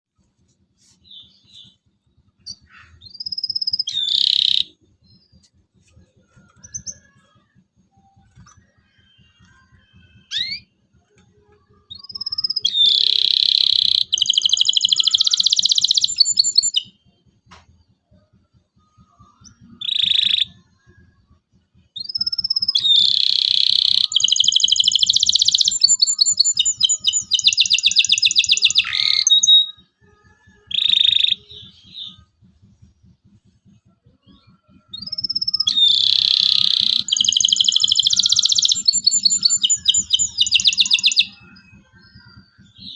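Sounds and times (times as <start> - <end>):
canary singing: 0.8 - 17.2, 18.8 - 42.9.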